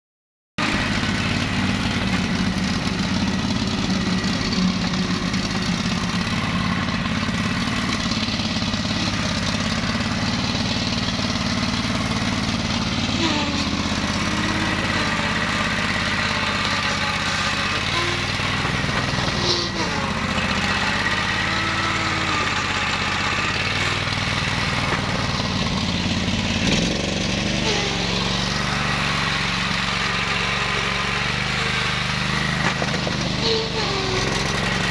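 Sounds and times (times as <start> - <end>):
mower engine running steadily: 0.6 - 34.9.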